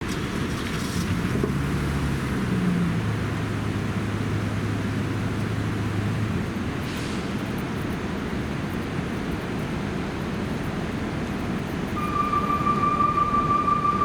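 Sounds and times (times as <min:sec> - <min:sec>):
street traffic noise: 0:00.0 - 0:14.0
vehicle engine humming: 0:00.0 - 0:14.0.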